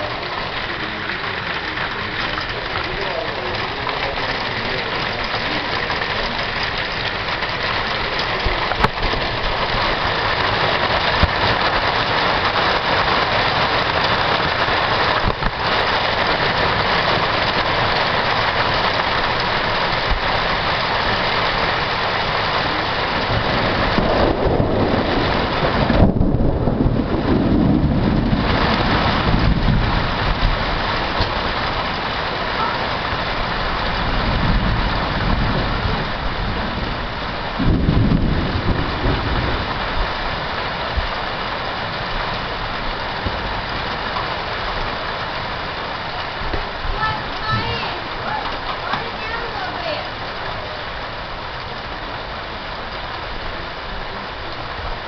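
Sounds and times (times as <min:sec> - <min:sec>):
steady rain falling: 0:00.0 - 0:55.0
thunder rumbling: 0:00.0 - 0:55.0.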